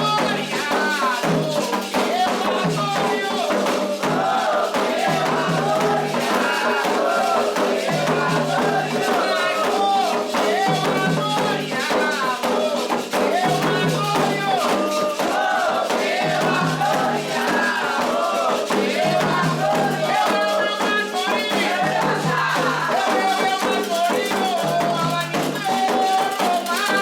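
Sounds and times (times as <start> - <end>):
group of voices singing: 0.0 - 27.0
hand percussion: 0.0 - 27.0
shaken rattle: 0.0 - 27.0.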